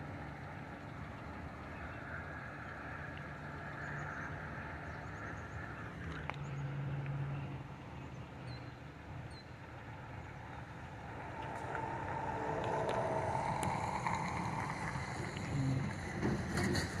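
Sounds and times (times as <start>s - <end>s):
distant vehicle rumble: 0.0s - 17.0s.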